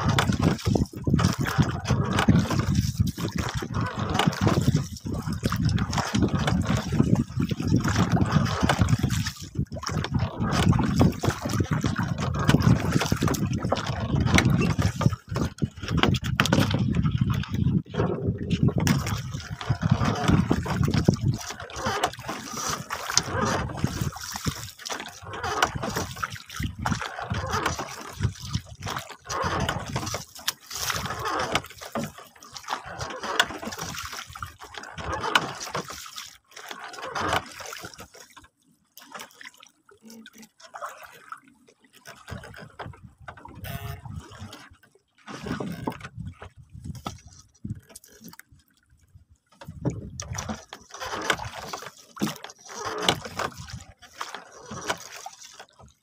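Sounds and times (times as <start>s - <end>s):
water lapping against boat hull: 0.0s - 56.0s
water splashing: 0.0s - 56.0s.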